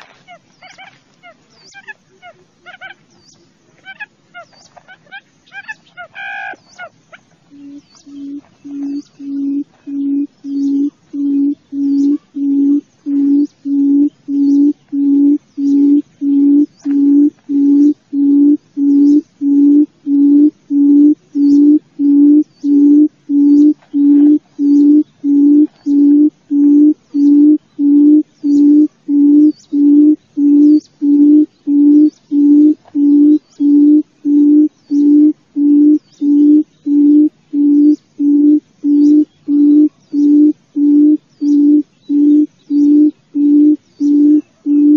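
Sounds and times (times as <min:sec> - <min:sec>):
buttonquail low hooting call: 0:00.0 - 0:03.0, 0:03.8 - 0:44.9.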